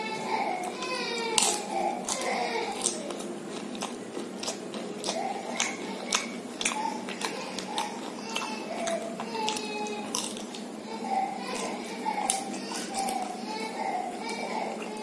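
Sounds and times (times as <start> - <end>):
chewing crisp snacks: 0.0 - 15.0.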